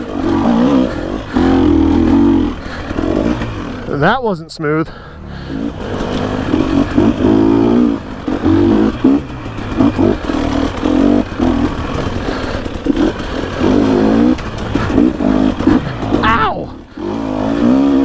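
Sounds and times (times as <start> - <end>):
two-stroke dirt bike engine revving: 0.0 - 18.0.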